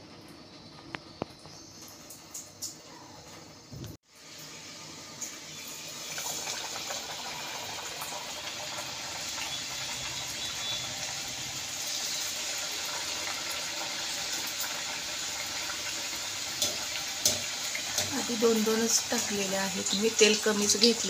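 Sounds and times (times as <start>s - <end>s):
deep-frying sizzle in oil: 0.0s - 21.0s.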